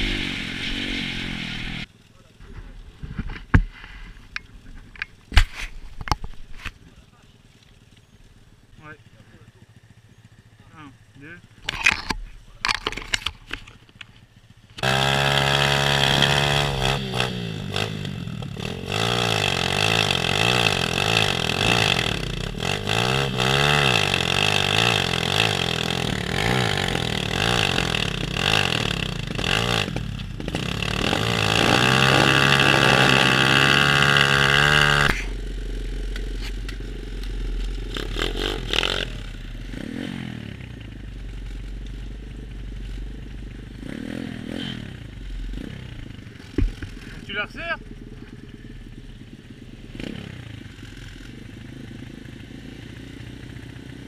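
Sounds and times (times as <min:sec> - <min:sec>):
motorbike engine revving: 0:00.0 - 0:02.8, 0:07.8 - 0:54.0.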